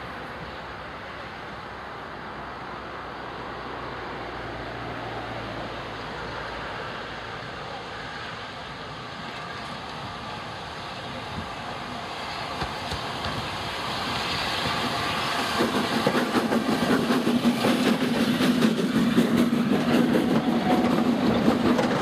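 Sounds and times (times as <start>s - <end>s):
road traffic: 0.0s - 22.0s
steam locomotive rumbling: 0.0s - 22.0s.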